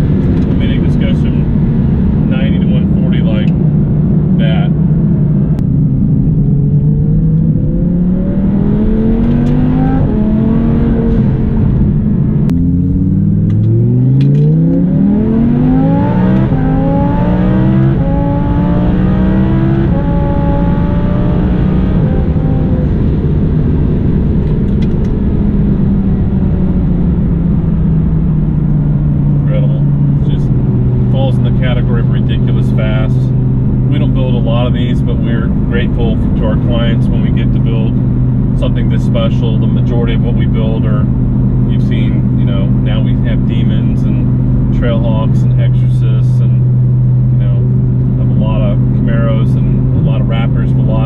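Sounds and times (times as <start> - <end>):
car engine accelerating hard: 0.0 - 51.0.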